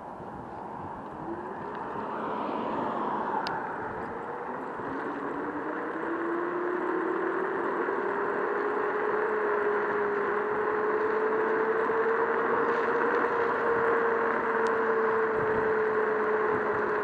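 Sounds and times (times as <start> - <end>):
wind and road noise: 0.0 - 17.0
electric motor whining: 0.9 - 17.0.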